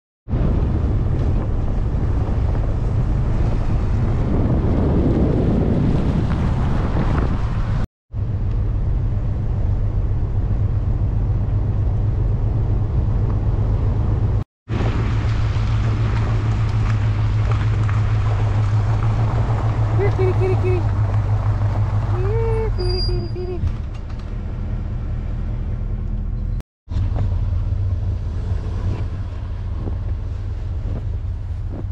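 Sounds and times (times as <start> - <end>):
wind buffeting microphone: 0.3 - 24.2, 28.4 - 31.9
road and engine rumble: 0.3 - 31.9.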